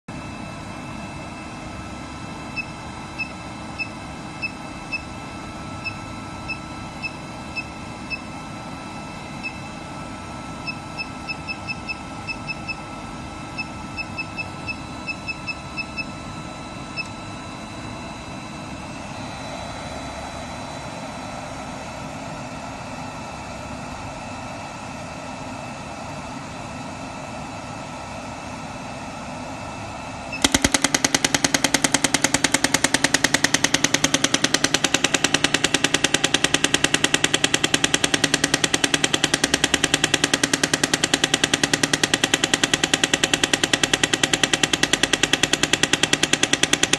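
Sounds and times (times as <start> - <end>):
machine humming: 0.0 - 22.8, 29.1 - 46.9.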